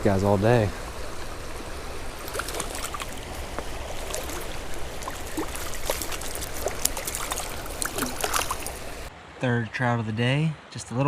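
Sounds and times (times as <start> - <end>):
creek water trickling: 0.0 - 9.1
small water splashes: 0.0 - 9.1.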